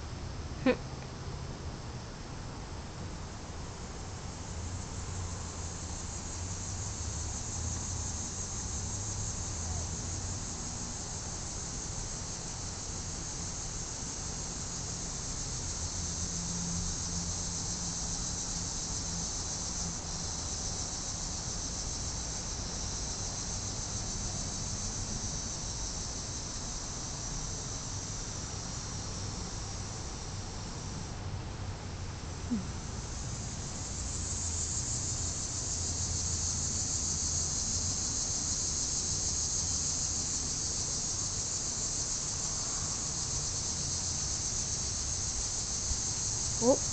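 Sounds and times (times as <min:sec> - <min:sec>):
crickets chirping chorus: 0:03.2 - 0:46.9.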